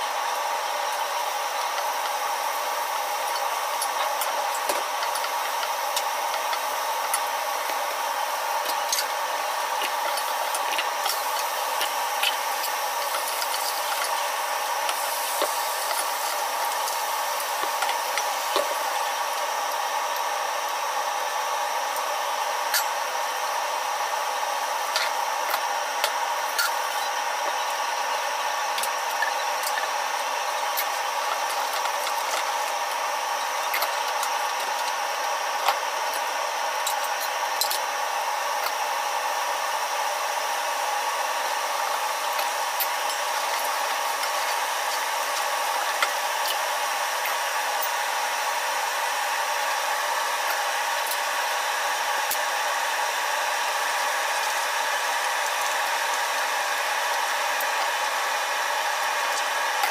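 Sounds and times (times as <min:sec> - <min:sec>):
food frying in a pan: 0:00.0 - 0:59.9
hot oil crackling and popping: 0:00.0 - 0:59.9
range hood fan whirring: 0:00.0 - 0:59.9.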